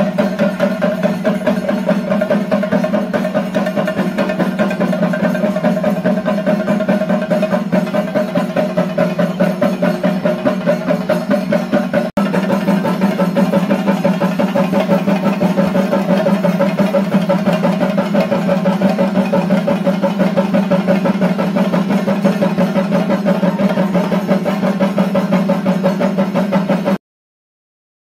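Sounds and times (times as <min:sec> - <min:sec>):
fast drum roll: 0:00.0 - 0:27.0.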